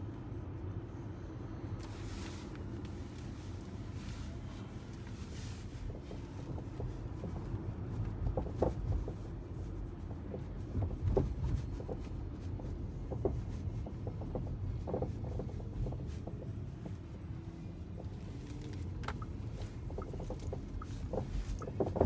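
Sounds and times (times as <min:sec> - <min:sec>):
low road rumble: 0:00.0 - 0:22.0.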